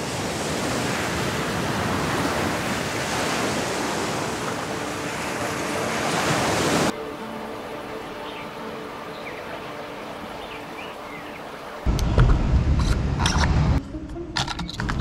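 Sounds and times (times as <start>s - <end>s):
surf on a beach: 0.0s - 13.7s.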